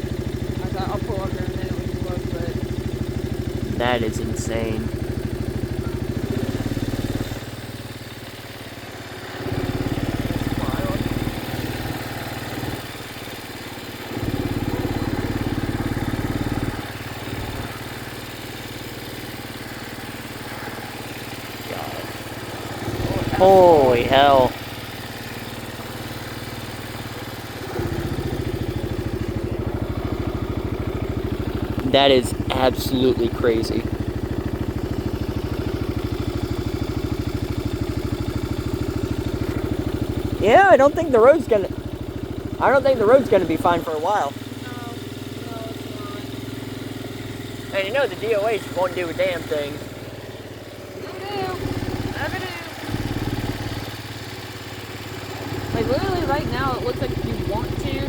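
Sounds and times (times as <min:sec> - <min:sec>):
vehicle engine rumble: 0:00.0 - 0:58.0.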